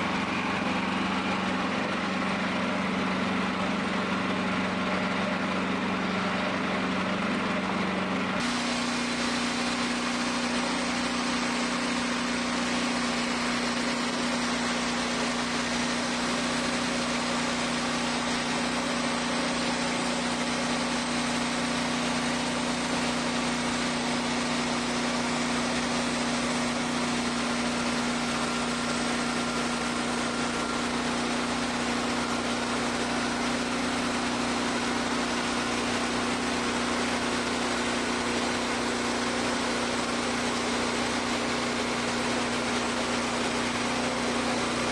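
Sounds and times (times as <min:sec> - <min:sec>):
band sawmill engine running: 0:00.0 - 0:44.9.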